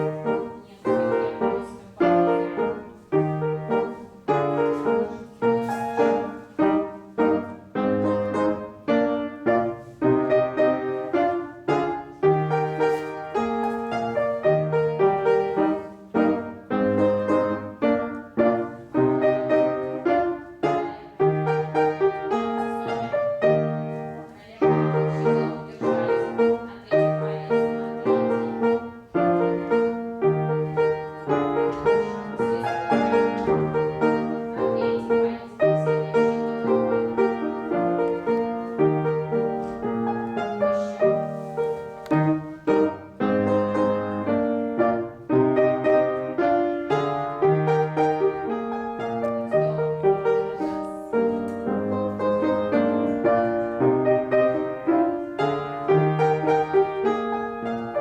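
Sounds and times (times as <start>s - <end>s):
piano playing: 0.0s - 58.0s.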